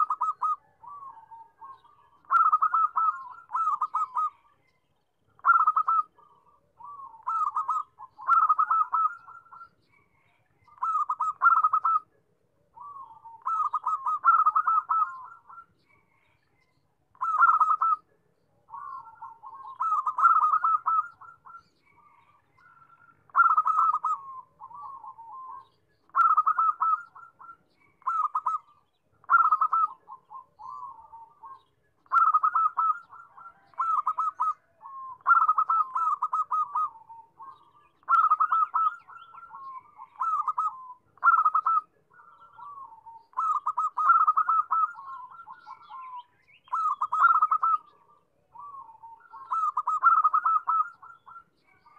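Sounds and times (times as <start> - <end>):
dove cooing: 0.0 - 4.7, 5.4 - 51.9.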